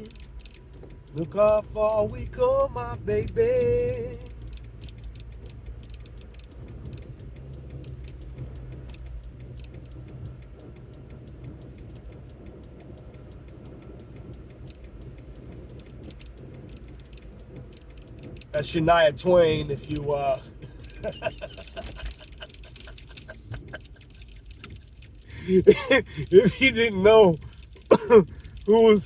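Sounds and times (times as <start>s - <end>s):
engine and road hum: 0.0s - 29.0s
fast ticking rattle: 0.0s - 29.0s.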